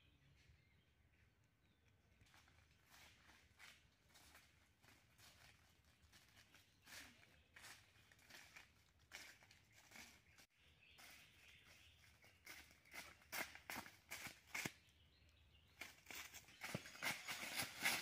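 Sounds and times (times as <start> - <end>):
footsteps in dry leaves: 2.3 - 14.9, 15.7 - 18.0.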